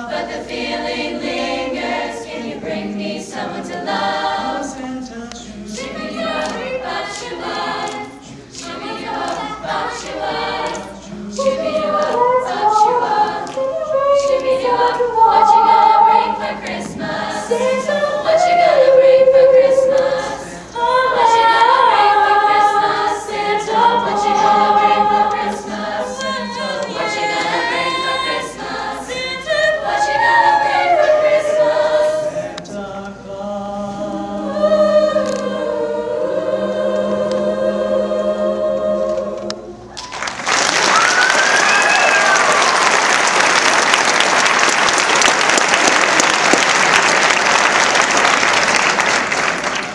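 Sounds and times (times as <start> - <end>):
choir singing in harmony: 0.0 - 49.9.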